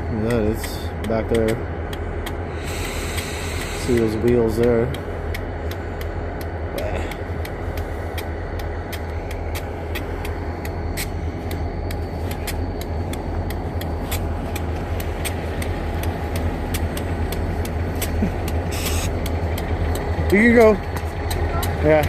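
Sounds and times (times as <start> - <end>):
sharp ticks: 0.0 - 22.0
vehicle engine idling: 0.0 - 22.0.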